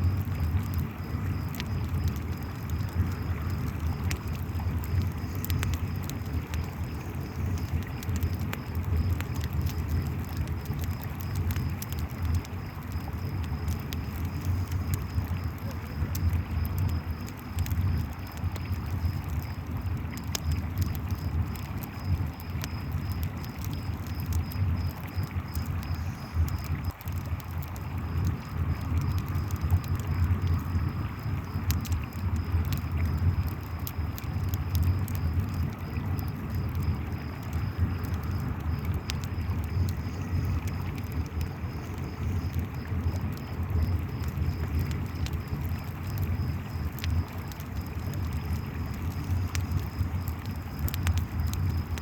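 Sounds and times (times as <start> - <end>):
campfire crackling and popping: 0.0 - 52.0
crickets chirping: 0.0 - 52.0.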